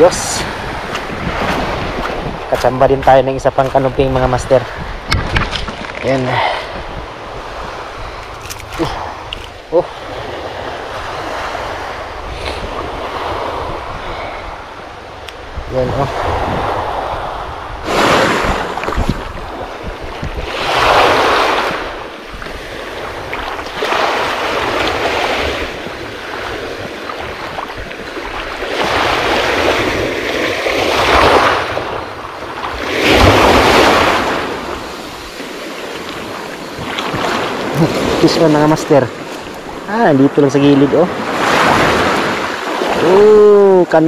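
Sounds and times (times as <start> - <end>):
waves washing up gravel beach: 0.0 - 14.4, 15.8 - 44.0.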